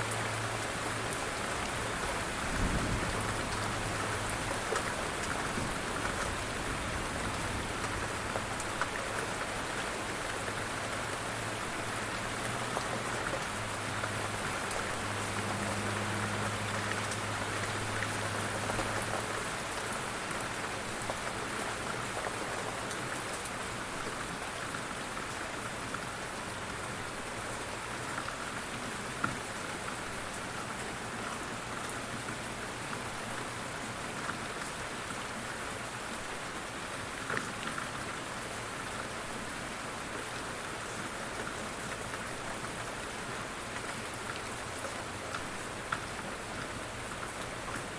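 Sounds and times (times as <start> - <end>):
steady rain patter: 0.0 - 47.9.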